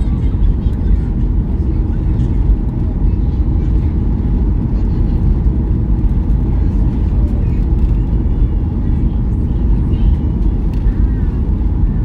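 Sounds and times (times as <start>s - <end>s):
airliner cabin engine rumble: 0.0s - 12.0s
faint passenger voices: 0.0s - 12.0s.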